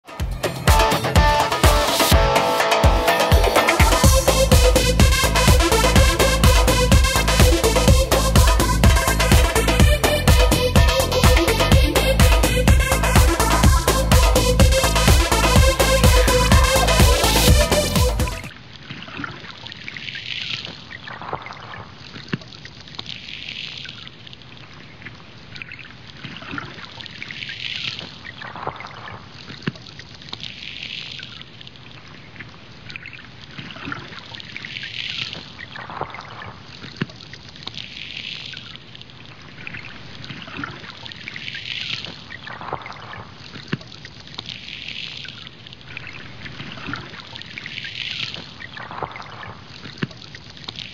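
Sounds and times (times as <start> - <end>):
muffled water sloshing: 0.3 - 50.9.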